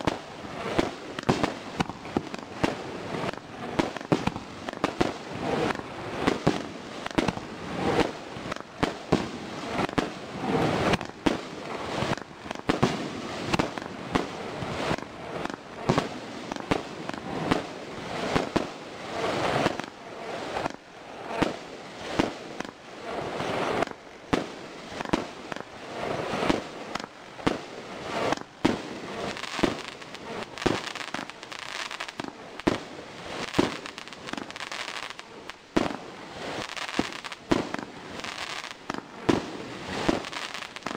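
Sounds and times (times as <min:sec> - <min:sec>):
fireworks bursts crackling: 0:00.0 - 0:40.9
fireworks launching: 0:00.0 - 0:40.9.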